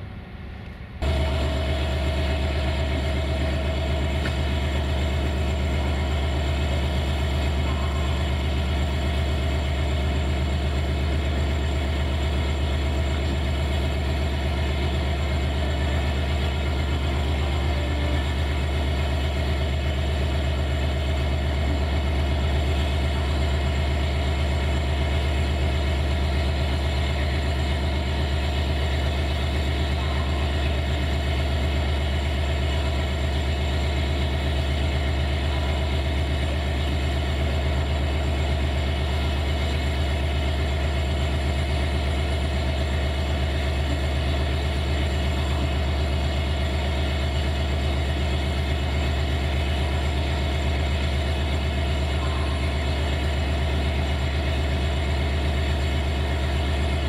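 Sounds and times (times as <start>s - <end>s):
diesel locomotive engine idling: 0.0s - 57.0s.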